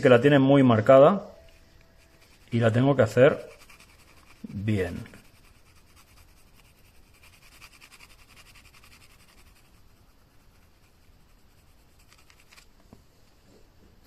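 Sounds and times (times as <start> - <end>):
pencil scratching on card: 1.4 - 12.8.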